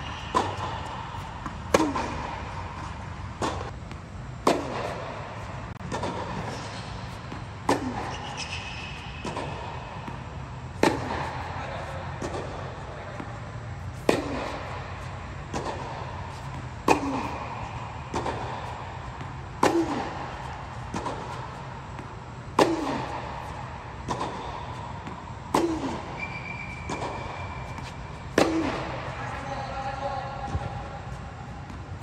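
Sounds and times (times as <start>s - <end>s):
steady low hum: 0.0s - 32.0s
tennis racket hitting ball: 0.0s - 32.0s.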